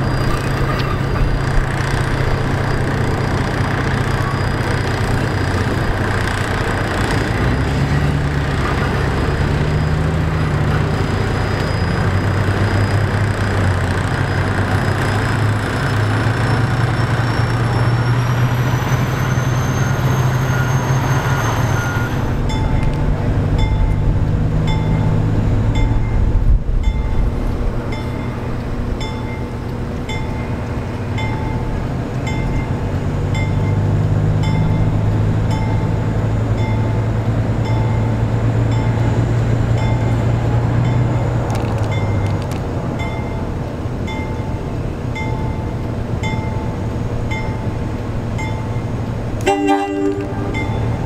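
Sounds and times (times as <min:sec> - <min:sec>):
locomotive bell ringing: 0:00.0 - 0:42.4, 0:43.0 - 0:51.0
diesel engine drone: 0:00.0 - 0:51.0.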